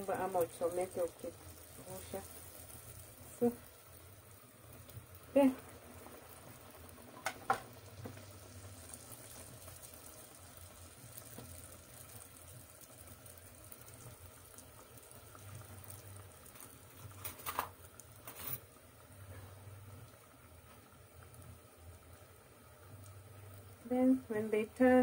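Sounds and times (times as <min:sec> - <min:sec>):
dough sizzling in hot oil: 0:00.0 - 0:25.0.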